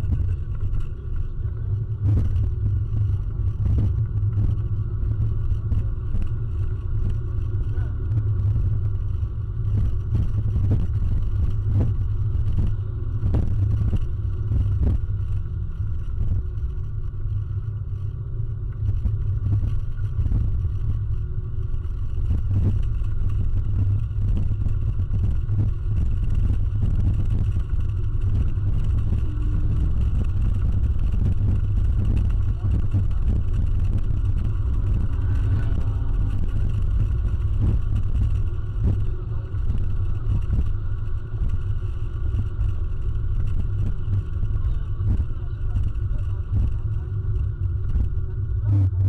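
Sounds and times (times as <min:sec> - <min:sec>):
car engine and road rumble: 0:00.0 - 0:49.0.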